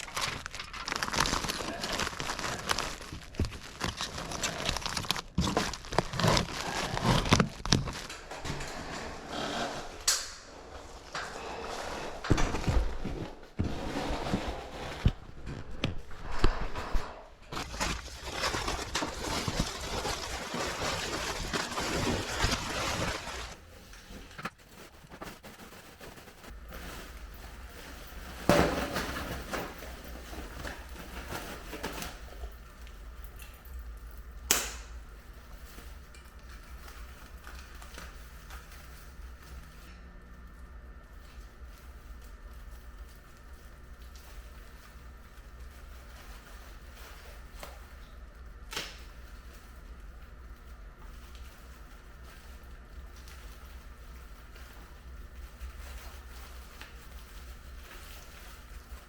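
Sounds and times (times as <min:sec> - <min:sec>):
insulation rustling and crinkling: 0:00.0 - 0:59.0.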